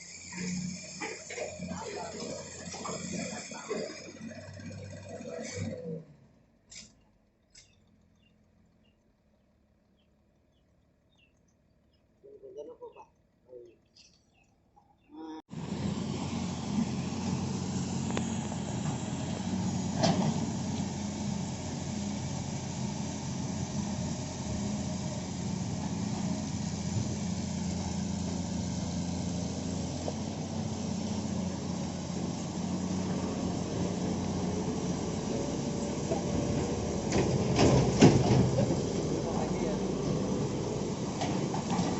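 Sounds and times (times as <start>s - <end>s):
diesel engine running: 0.0s - 11.4s, 15.4s - 41.9s.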